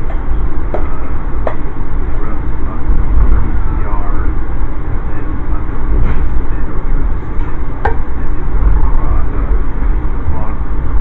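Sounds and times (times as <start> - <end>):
passenger train rumble: 0.0 - 11.0.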